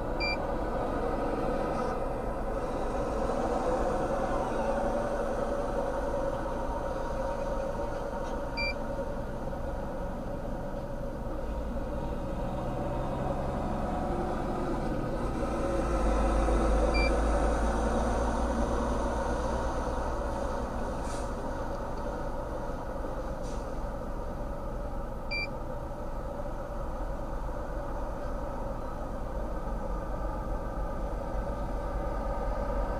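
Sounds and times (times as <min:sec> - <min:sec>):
motor vehicle running: 0:00.0 - 0:32.9.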